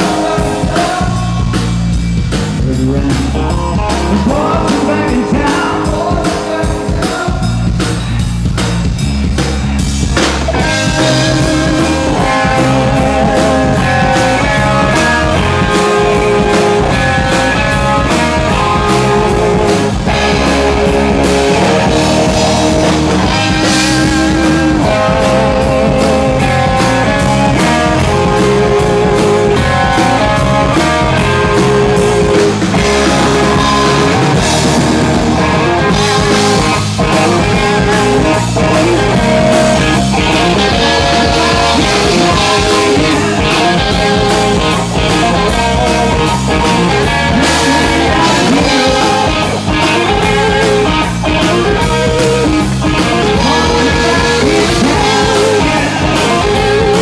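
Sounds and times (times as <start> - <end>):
bass guitar: 0.0 - 57.0
drum kit beat: 0.0 - 57.0
electric guitar lead: 0.0 - 57.0.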